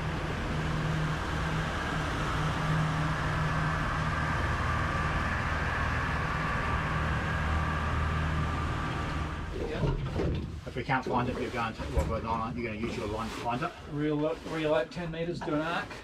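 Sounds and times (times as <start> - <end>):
outboard motors droning: 0.0 - 16.0
rushing water of wake: 0.0 - 16.0.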